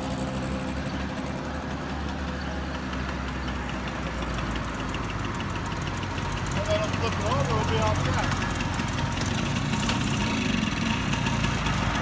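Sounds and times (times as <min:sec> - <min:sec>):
scooter two-stroke engine: 0:00.0 - 0:12.0.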